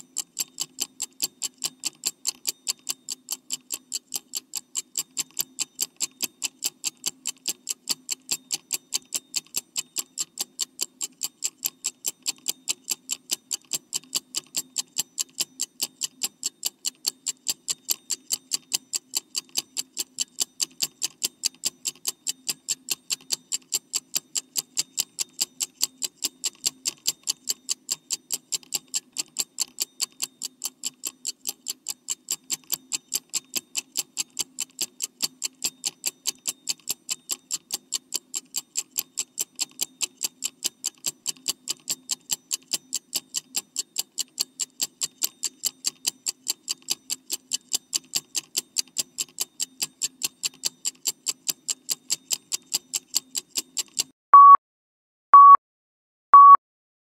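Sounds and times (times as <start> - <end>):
clock ticking rapidly: 0.0 - 54.1.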